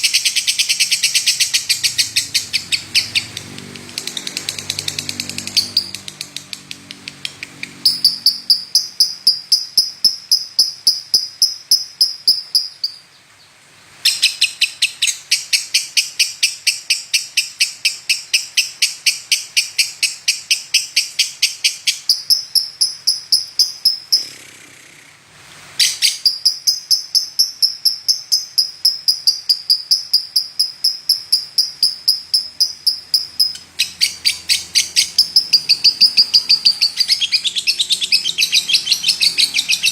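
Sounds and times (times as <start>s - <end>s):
lovebird chirping: 0.0s - 25.0s, 25.8s - 39.9s.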